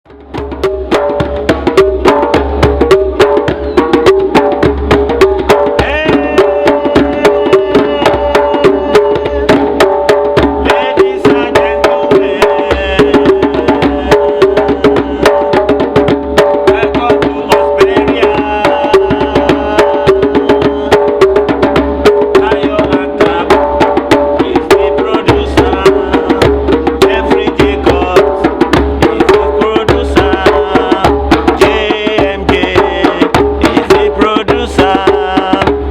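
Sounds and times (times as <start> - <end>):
hand drums playing fast rhythm: 0.1 - 35.9.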